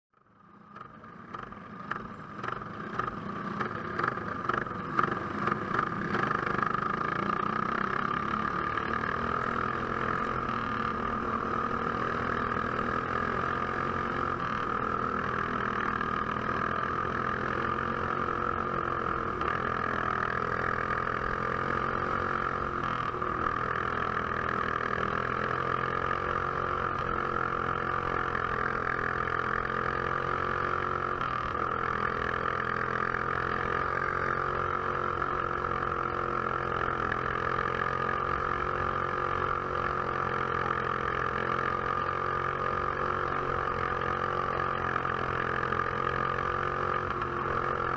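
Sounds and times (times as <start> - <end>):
kart engine revving: 0.5 - 47.9.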